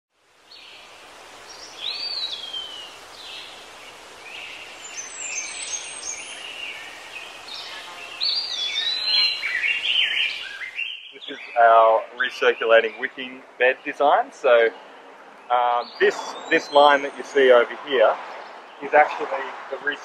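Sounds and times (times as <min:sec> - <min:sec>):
outdoor background noise: 0:00.1 - 0:20.0
birds chirping: 0:00.5 - 0:20.0.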